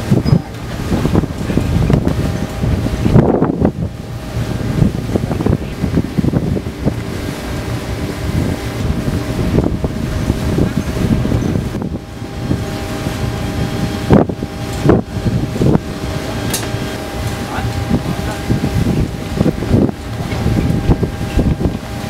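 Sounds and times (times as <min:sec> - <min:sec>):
ship engines rumbling: 0:00.0 - 0:22.0
wind buffeting microphone: 0:00.0 - 0:22.0.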